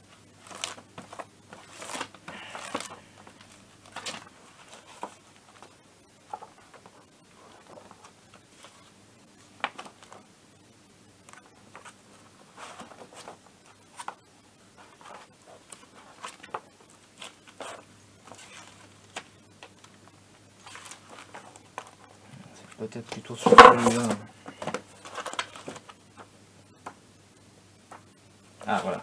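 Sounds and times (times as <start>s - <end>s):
paper crackle: 0.1s - 10.3s, 11.2s - 27.0s
paper pages rustling: 0.1s - 10.3s, 11.2s - 14.2s, 14.8s - 27.0s.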